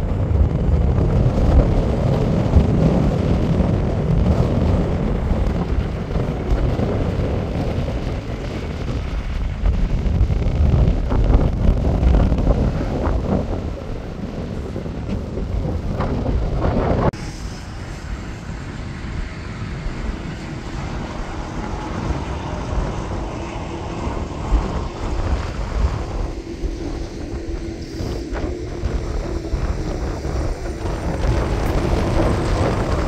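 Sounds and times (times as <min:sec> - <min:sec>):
jet engines rumbling: 0:00.0 - 0:33.0
wind buffeting microphone: 0:00.0 - 0:33.0.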